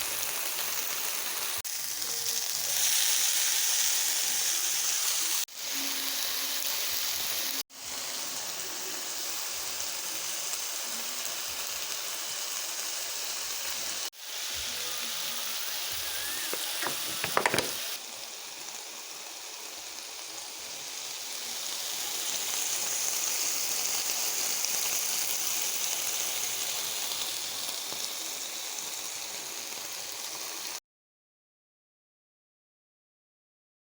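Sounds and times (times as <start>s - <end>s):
chicken sizzling in a pan: 0.0s - 30.8s.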